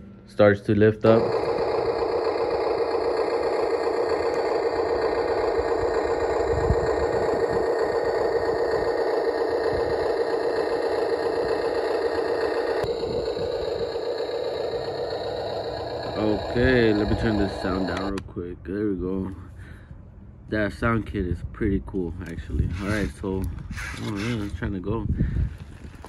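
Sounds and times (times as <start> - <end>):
simulated engine sound from speaker: 0.0 - 25.2.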